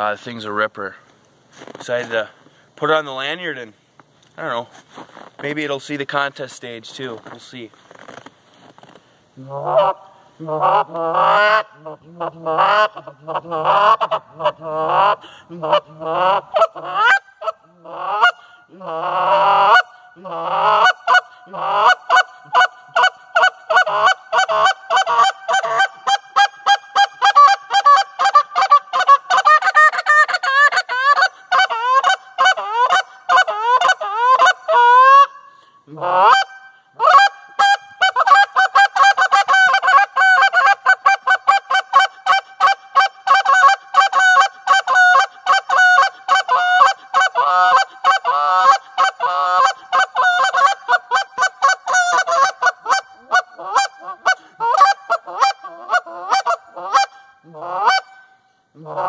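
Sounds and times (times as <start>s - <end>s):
goose call honks and clucks: 9.4s - 59.0s.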